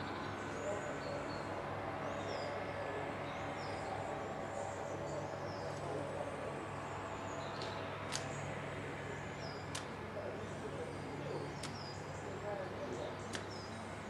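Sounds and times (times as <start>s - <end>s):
low hum and hiss: 0.0s - 14.0s
small birds chirping: 0.0s - 14.0s.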